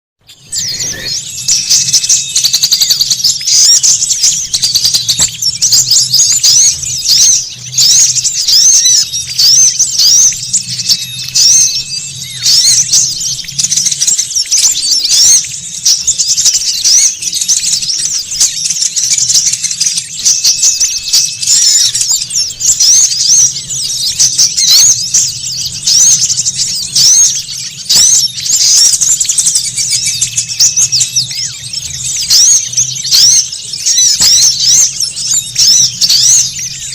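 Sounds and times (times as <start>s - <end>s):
songbirds chirping and twittering: 0.2s - 36.9s.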